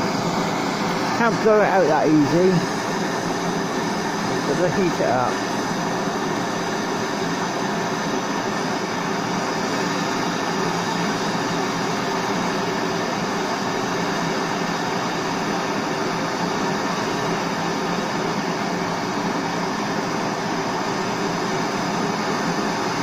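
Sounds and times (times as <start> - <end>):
blowtorch burning: 0.0 - 23.0.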